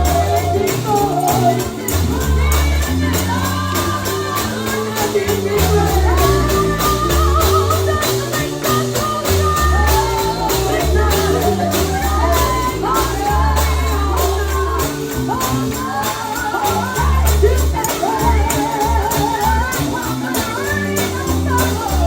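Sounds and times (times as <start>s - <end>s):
gospel singing with band: 0.0s - 22.0s
stepping bass line: 0.0s - 22.0s
tambourine and drum strokes: 0.0s - 22.0s.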